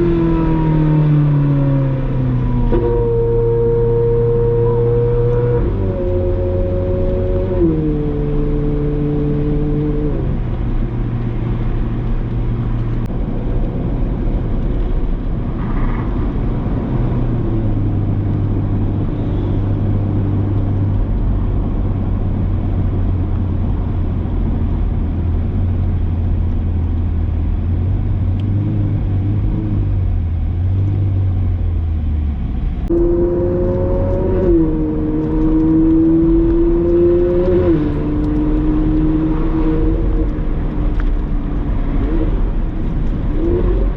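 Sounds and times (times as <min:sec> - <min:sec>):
sports car engine in traffic: 0:00.0 - 0:43.9.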